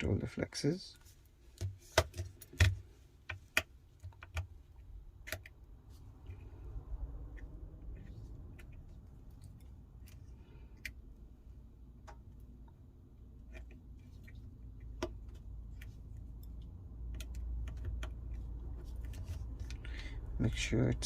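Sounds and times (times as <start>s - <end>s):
faint handling noise: 0.9s - 21.0s.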